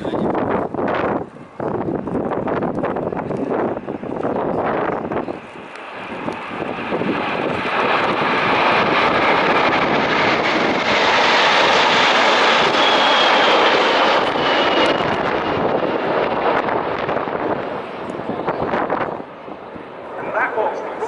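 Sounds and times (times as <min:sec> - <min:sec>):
high jet whine: 0:00.0 - 0:21.0
jet engines roaring: 0:00.0 - 0:21.0.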